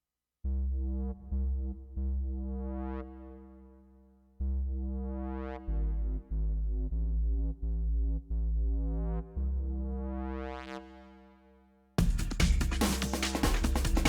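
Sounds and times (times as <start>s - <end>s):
deep synth bass: 0.4s - 11.4s, 12.0s - 14.0s.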